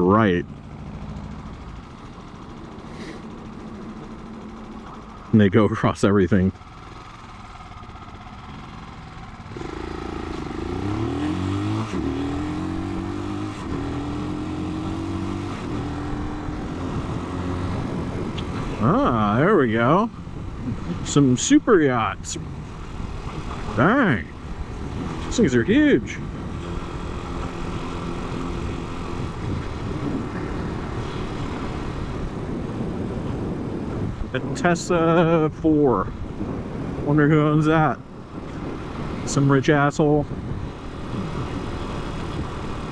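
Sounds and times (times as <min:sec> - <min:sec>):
motorcycle engine idling and revving: 0:00.0 - 0:42.9
wind and road noise: 0:00.0 - 0:42.9.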